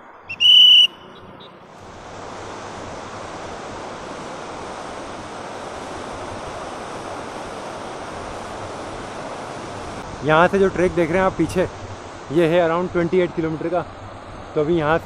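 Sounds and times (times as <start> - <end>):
river rushing over rapids: 0.3 - 15.0.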